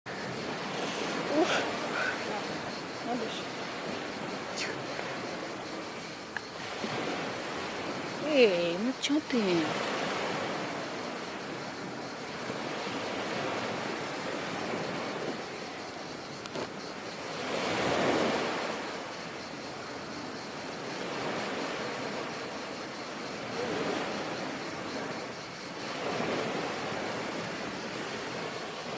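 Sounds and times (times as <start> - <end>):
sea waves washing onto shore: 0.1 - 28.9.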